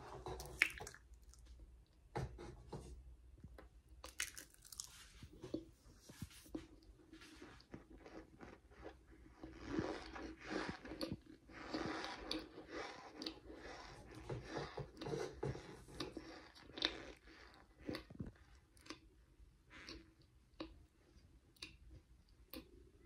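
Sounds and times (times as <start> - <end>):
crackly chewing: 4.0 - 22.8.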